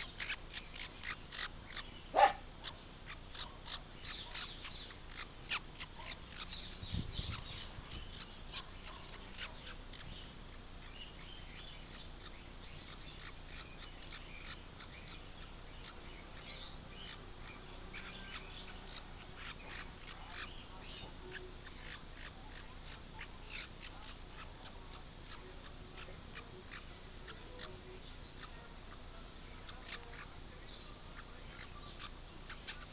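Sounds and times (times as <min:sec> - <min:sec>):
parrot chick cheeping: 0:00.0 - 0:32.9.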